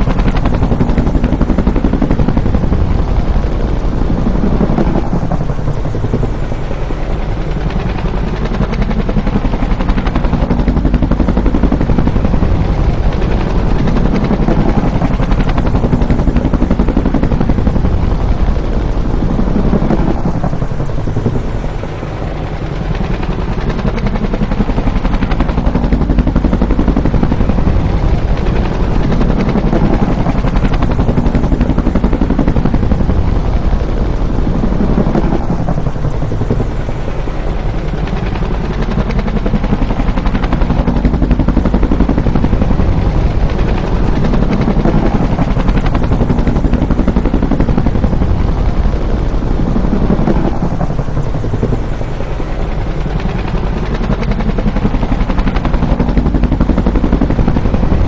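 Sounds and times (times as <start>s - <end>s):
helicopter flying by: 0.0s - 58.0s.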